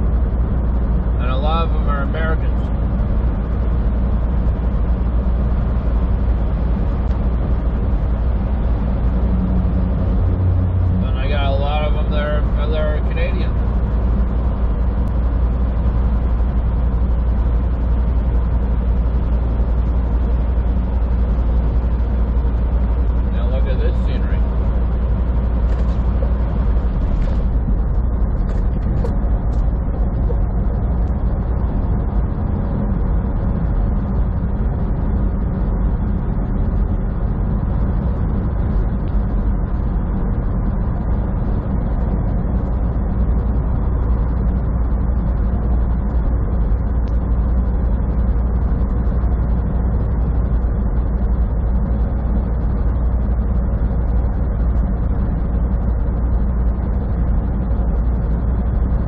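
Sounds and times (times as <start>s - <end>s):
road and tyre noise: 0.0s - 59.0s
truck engine drone: 0.0s - 59.0s.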